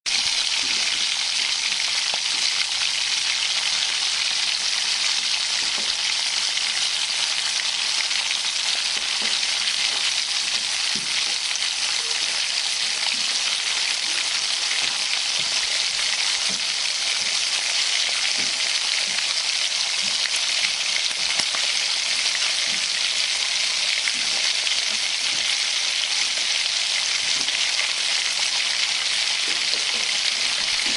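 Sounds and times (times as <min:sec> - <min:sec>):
bacon sizzling in a frying pan: 0:00.1 - 0:30.9.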